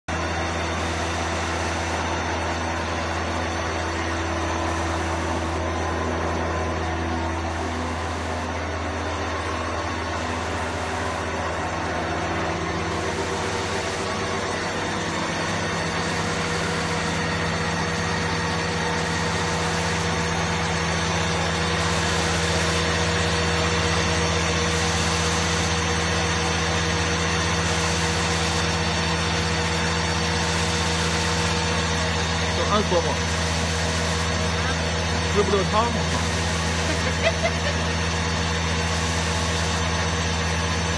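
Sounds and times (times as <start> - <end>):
drilling machine hum: 0.1 - 40.9.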